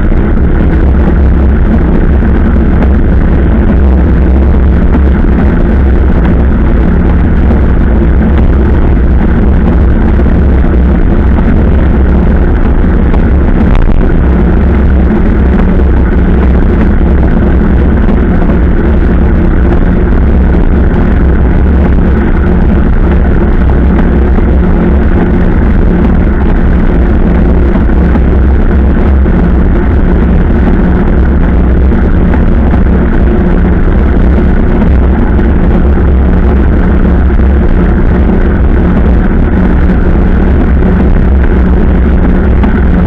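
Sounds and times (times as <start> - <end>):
wind buffeting on microphone: 0.0 - 43.0.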